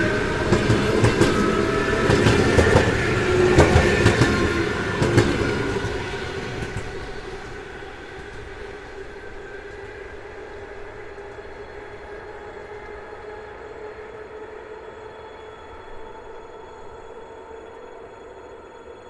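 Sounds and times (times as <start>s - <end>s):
train passing on rails: 0.0s - 19.0s.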